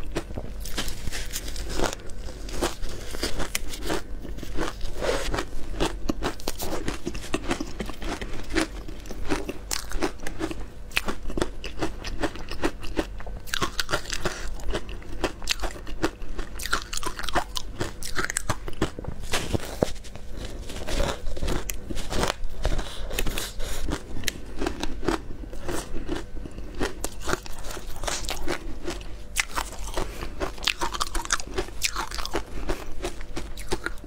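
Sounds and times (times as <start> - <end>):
crunching and chewing shaved ice: 0.0 - 34.0.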